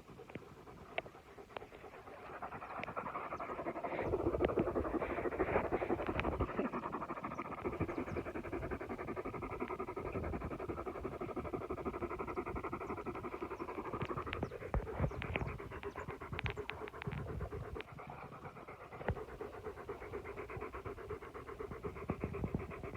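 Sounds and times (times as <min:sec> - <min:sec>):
dogs panting: 0:00.0 - 0:22.9.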